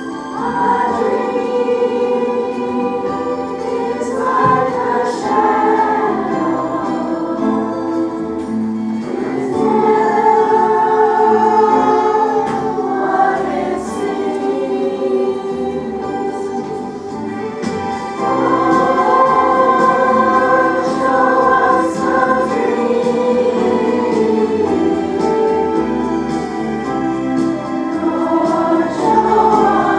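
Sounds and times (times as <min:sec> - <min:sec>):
choir singing gospel song: 0:00.0 - 0:29.9
instrumental accompaniment: 0:00.0 - 0:29.9.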